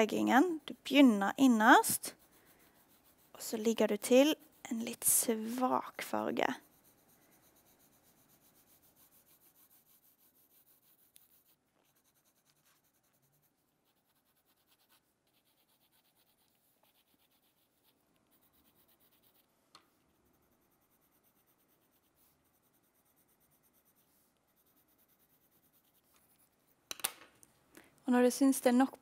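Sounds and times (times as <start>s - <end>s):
pencil scratching on paper: 0.0s - 26.8s.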